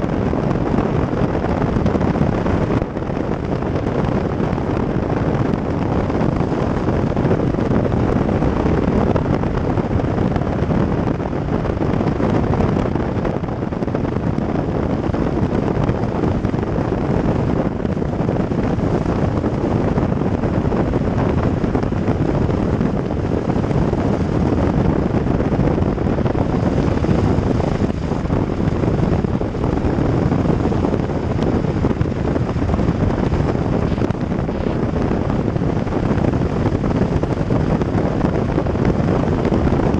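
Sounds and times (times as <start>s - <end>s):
wind buffeting a camera: 0.0s - 39.9s.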